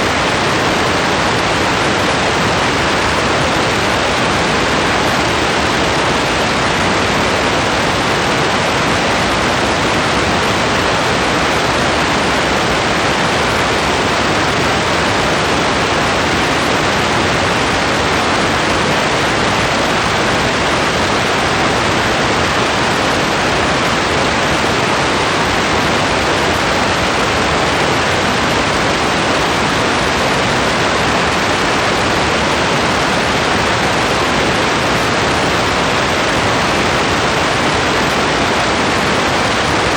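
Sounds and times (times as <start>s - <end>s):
heavy rain falling: 0.0s - 39.9s
running water: 0.0s - 39.9s.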